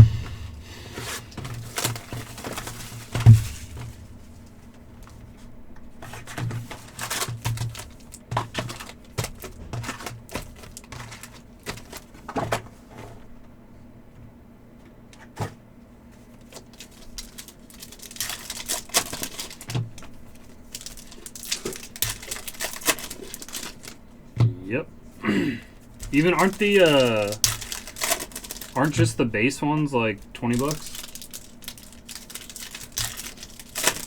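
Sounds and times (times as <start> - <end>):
wrappers crinkling: 0.0 - 12.9, 16.2 - 24.1, 25.8 - 34.0
faint low hum: 0.0 - 34.0.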